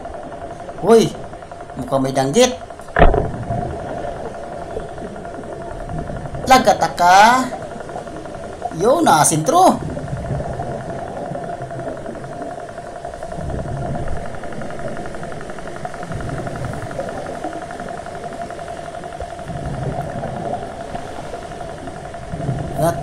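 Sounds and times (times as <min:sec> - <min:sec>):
engine droning underwater: 0:00.0 - 0:23.0.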